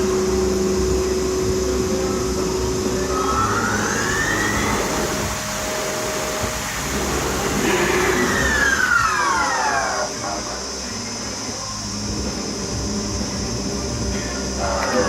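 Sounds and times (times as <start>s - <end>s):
lathe spindle whine: 0.0s - 15.0s
steady machine hum: 0.0s - 15.0s.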